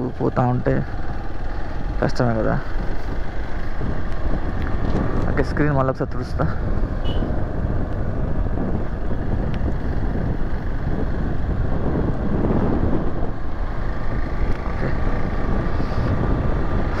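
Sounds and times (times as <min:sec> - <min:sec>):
motorcycle engine running: 0:00.0 - 0:05.8, 0:06.4 - 0:17.0
wind on microphone: 0:01.7 - 0:17.0.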